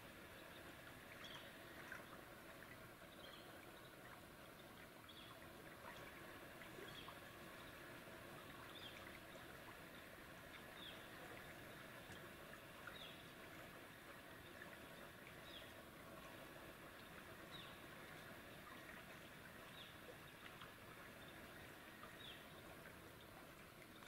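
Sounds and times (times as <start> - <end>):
faint woodland background: 0.0 - 24.0.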